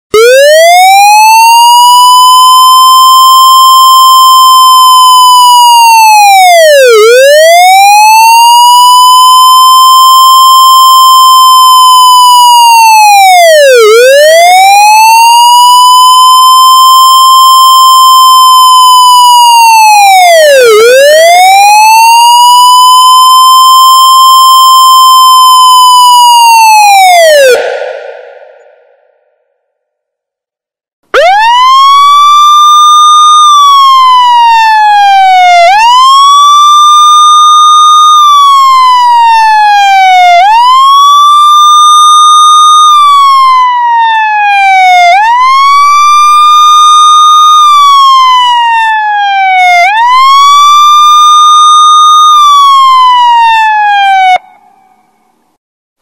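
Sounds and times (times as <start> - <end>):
police siren wailing: 0.0 - 28.4, 31.2 - 54.5.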